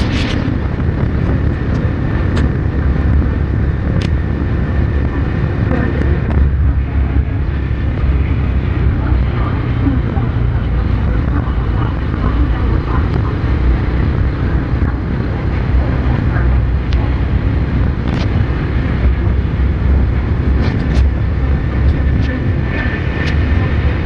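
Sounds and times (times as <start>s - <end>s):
deep low rumble: 0.0s - 24.0s
steady rain: 0.0s - 24.0s.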